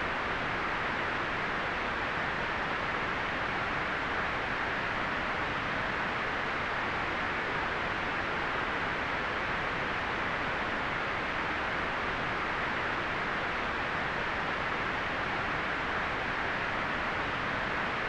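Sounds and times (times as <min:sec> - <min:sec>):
white noise hiss: 0:00.0 - 0:18.0.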